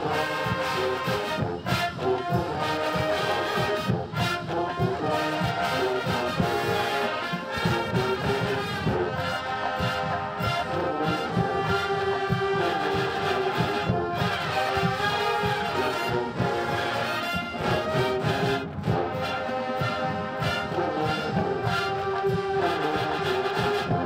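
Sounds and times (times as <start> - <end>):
brass playing a melody: 0.0 - 24.0
steady drum beat: 0.0 - 24.0.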